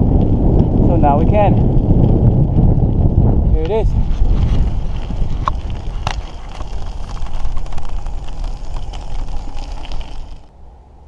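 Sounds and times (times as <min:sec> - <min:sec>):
bike tyres rumbling on pavement: 0:00.0 - 0:10.5
wind buffeting microphone: 0:00.0 - 0:10.6.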